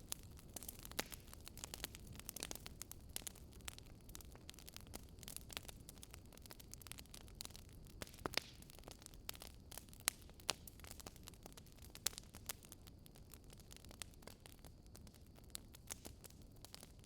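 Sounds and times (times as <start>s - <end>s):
campfire crackling and popping: 0.0s - 17.0s
low steady hiss: 0.0s - 17.0s.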